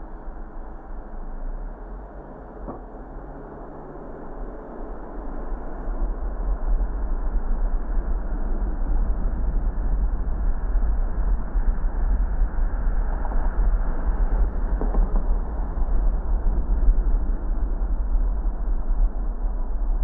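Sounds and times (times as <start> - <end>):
car driving on road: 0.0 - 20.0.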